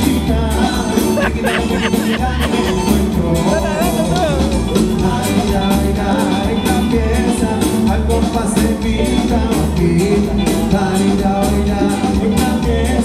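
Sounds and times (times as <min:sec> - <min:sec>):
cumbia band music: 0:00.0 - 0:13.0.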